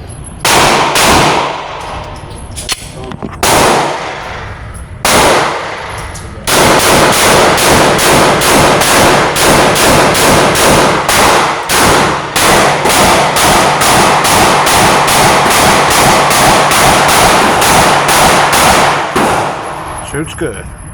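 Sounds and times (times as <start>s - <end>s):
pistol shots: 0.4s - 20.0s.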